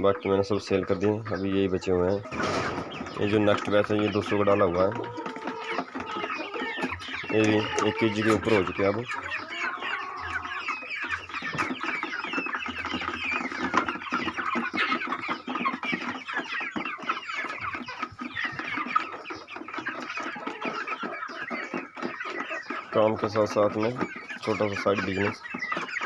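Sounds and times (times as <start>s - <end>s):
young chickens clucking and chirping: 0.0s - 26.0s.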